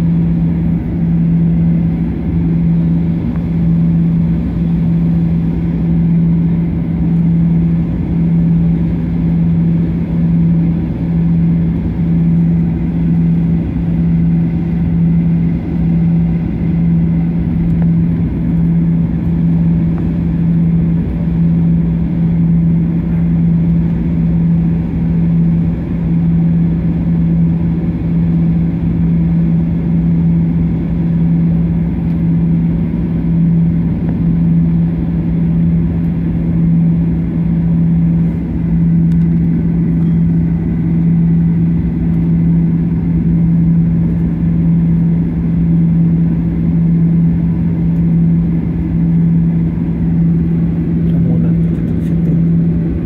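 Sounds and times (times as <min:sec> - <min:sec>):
aircraft cabin engine drone: 0:00.0 - 0:53.0
constant hum: 0:00.0 - 0:53.0.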